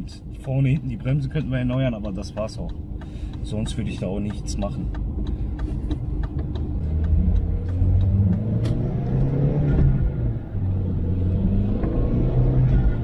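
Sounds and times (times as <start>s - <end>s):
car engine revving: 0.3s - 13.0s.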